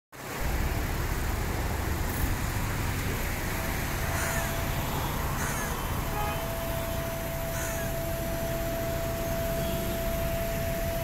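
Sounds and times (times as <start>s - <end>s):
vehicle engine rumbling: 0.2s - 11.0s.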